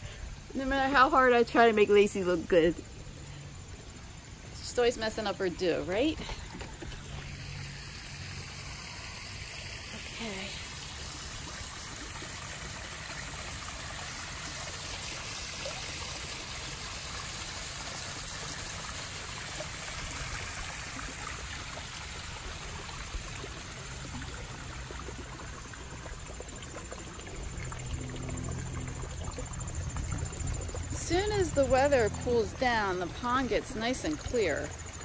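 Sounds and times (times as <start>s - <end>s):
waterfall splashing into pond: 4.7s - 35.0s.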